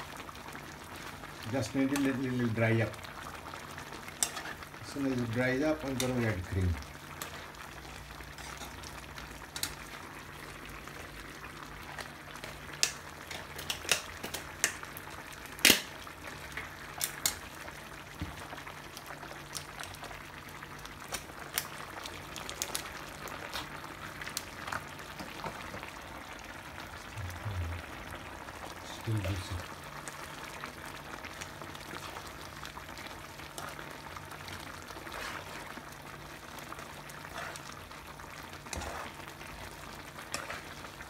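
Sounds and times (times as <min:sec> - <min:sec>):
sauce bubbling in a pan: 0:00.0 - 0:41.0.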